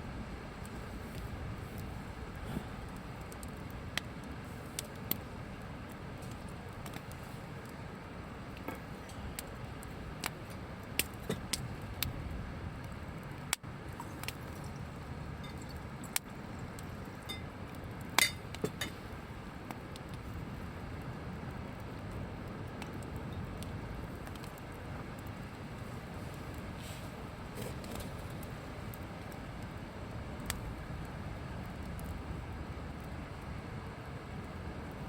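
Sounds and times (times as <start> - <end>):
campfire crackling and popping: 0.2 - 35.0.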